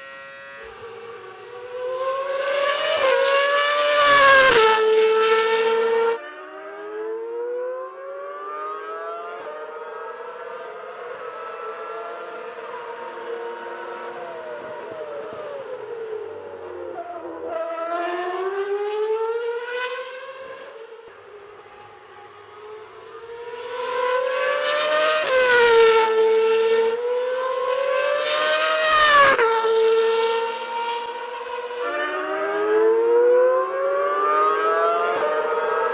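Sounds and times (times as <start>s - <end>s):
racing car engine at high revs: 0.0s - 35.9s.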